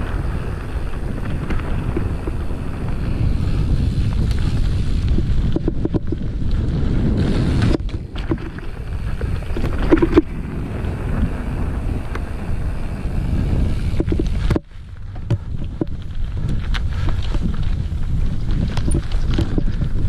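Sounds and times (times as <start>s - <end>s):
bike rattling: 0.0s - 20.0s
wind rumbling on microphone: 0.0s - 20.0s.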